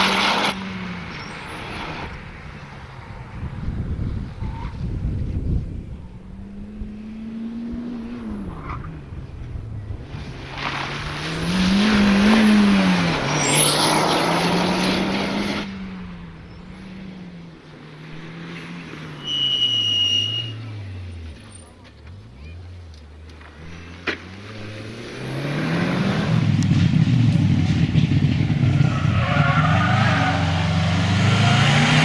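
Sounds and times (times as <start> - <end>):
rally car engine revving: 0.0 - 32.0
tyre and road noise rush: 0.0 - 32.0.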